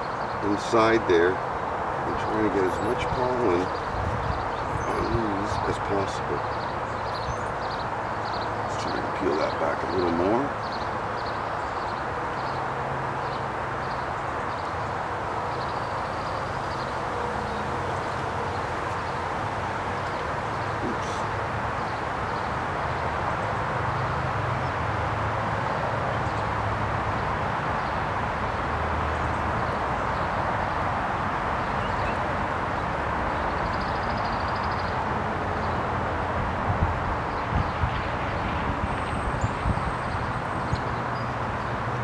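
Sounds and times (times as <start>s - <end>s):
steady outdoor hiss: 0.0s - 42.0s.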